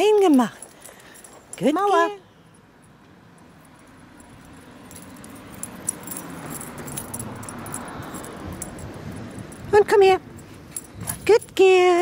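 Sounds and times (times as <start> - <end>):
dog harness jingling: 0.0 - 12.0.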